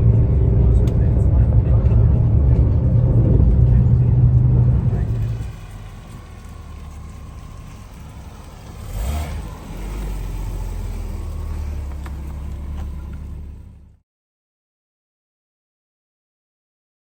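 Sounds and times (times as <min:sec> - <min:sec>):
vehicle rumbling: 0:00.0 - 0:14.0.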